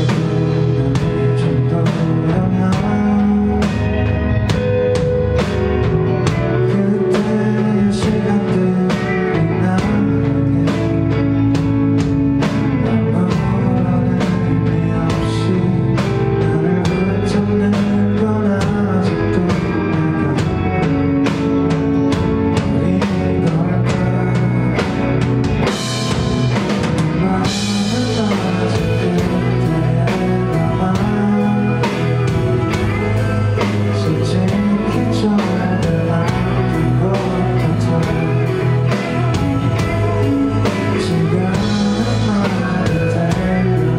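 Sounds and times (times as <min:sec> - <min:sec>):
bass guitar: 0:00.0 - 0:43.9
drum kit steady beat: 0:00.0 - 0:43.9
electric guitar: 0:00.0 - 0:43.9
male lead vocal: 0:00.0 - 0:43.9.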